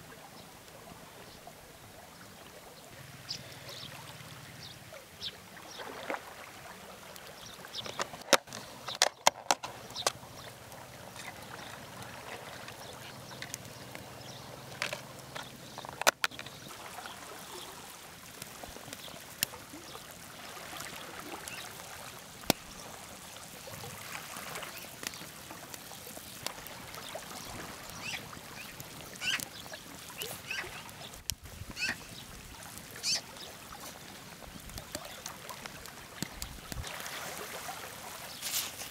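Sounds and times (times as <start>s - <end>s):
broth bubbling at a boil: 0.0s - 38.9s
burning wood crackling: 3.0s - 38.9s.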